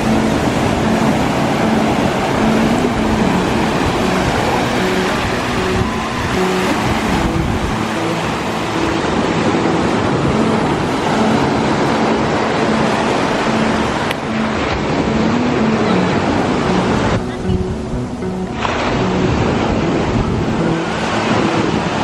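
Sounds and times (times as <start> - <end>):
low background music: 0.0 - 22.0
ocean surf rushing: 0.0 - 22.0
wind on microphone: 0.0 - 22.0.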